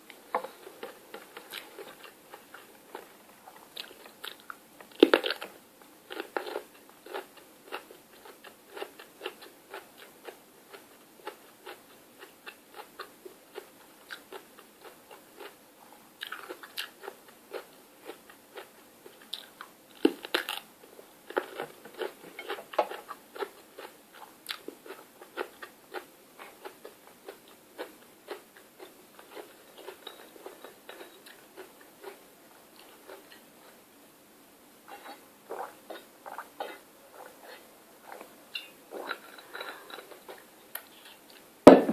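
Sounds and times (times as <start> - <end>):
chewing and crunching crisp food: 0.0 - 33.8, 34.9 - 41.5.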